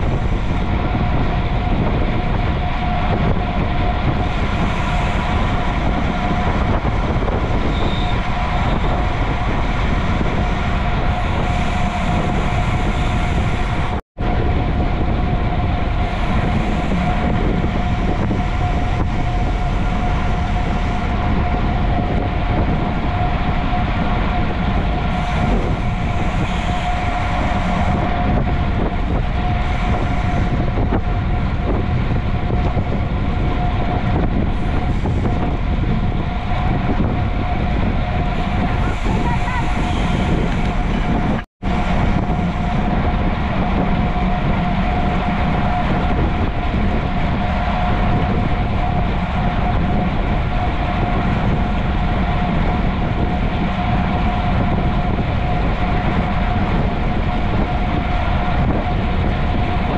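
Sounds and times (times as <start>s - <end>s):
bicycle road noise: 0.0s - 59.9s
constant hum: 0.0s - 59.9s
wind rushing: 0.0s - 59.9s.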